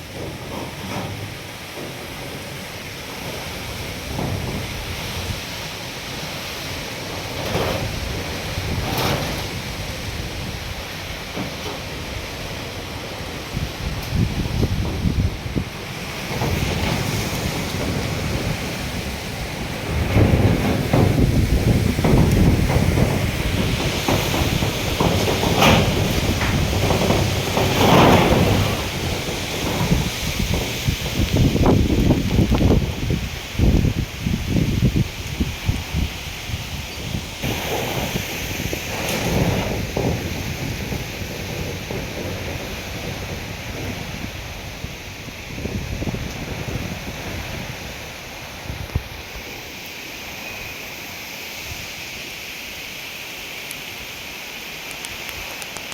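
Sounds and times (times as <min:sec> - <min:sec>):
wind buffeting microphone: 0:00.0 - 0:49.6.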